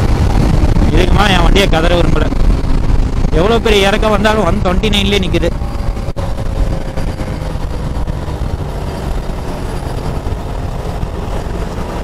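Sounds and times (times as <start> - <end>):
motorcycle engine: 0.0 - 12.0
wind rush: 0.0 - 12.0.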